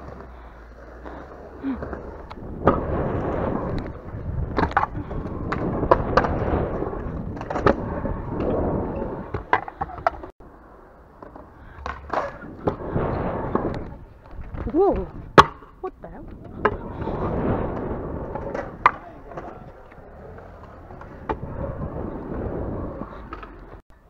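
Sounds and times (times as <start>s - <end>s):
scooter wheels rolling on concrete: 0.0s - 24.0s.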